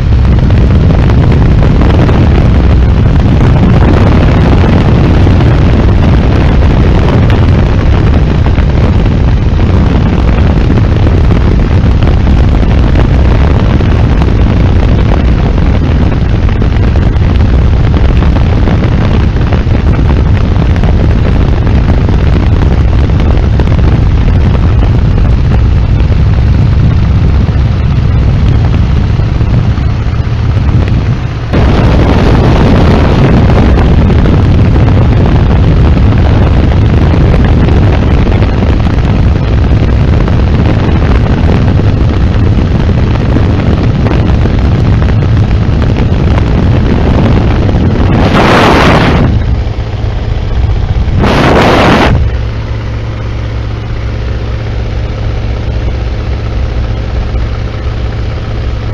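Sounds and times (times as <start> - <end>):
biplane engine drone: 0.0 - 58.9
wind blasting microphone: 0.0 - 58.9.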